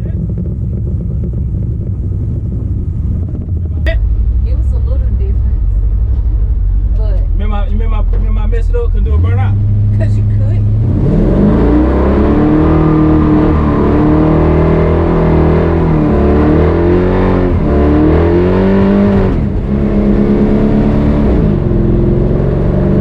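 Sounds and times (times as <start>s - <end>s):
pickup truck engine revving: 0.0s - 23.0s.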